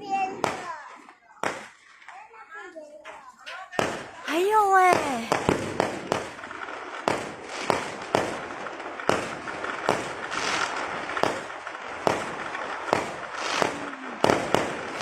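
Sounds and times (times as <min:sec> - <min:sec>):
fireworks bangs: 0:00.0 - 0:02.4, 0:03.0 - 0:15.0
fireworks crackling: 0:00.0 - 0:15.0.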